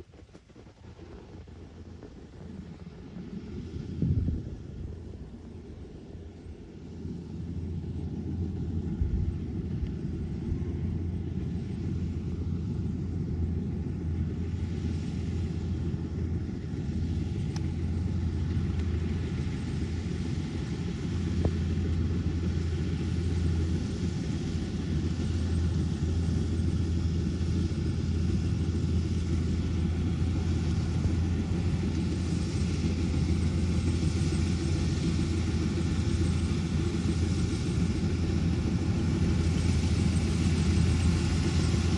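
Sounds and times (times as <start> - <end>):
combine harvester diesel engine: 0.7 - 41.9.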